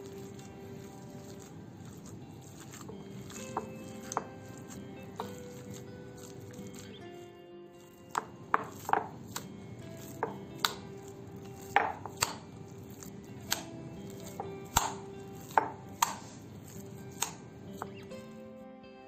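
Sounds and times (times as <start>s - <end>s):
hands kneading raw meat: 0.0s - 18.4s.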